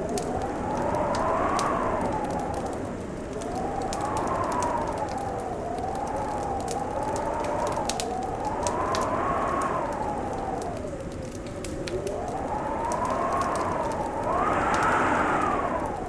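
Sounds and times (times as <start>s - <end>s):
fire crackling and popping: 0.0s - 16.0s
wind howling: 0.0s - 16.0s.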